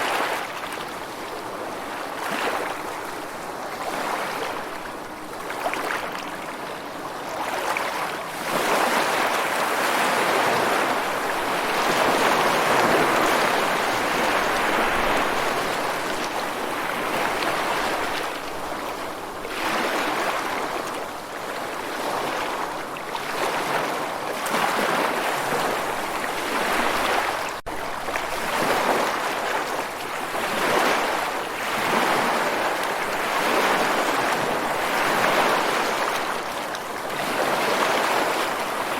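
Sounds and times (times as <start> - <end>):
waves washing in: 0.0 - 38.9.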